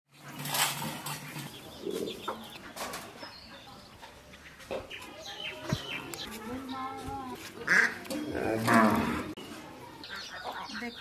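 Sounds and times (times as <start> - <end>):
chickens clucking: 0.2 - 11.0.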